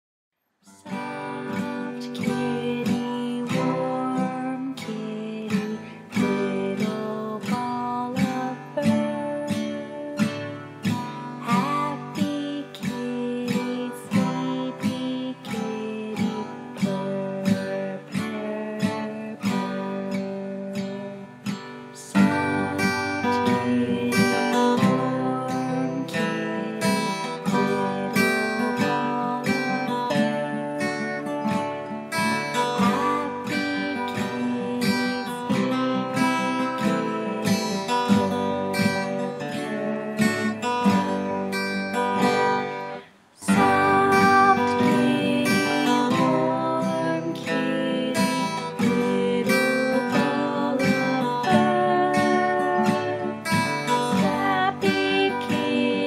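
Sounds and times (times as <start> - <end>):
strummed acoustic guitar music: 0.6 - 56.0.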